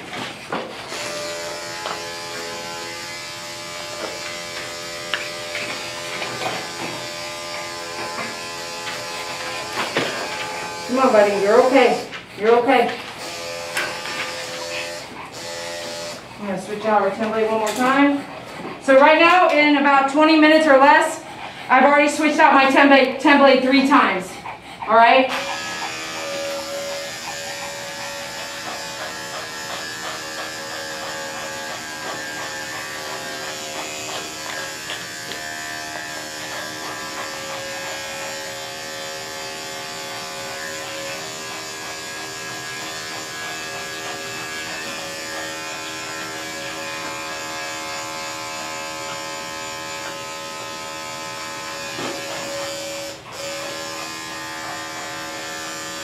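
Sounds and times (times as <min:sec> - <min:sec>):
electric clippers humming: 0:00.0 - 0:21.0, 0:25.0 - 0:56.0.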